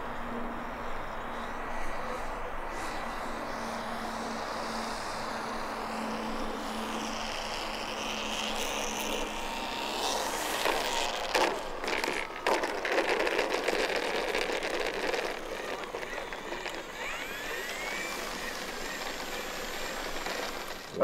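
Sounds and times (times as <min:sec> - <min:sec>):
model plane propeller whirring: 0:00.0 - 0:21.0.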